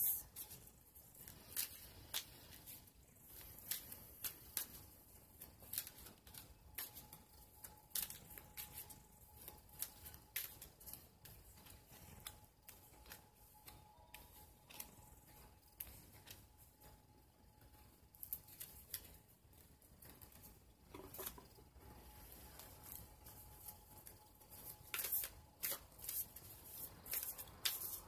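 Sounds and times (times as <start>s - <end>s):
cards being shuffled: 0.4s - 17.0s, 18.2s - 19.3s, 22.2s - 28.0s.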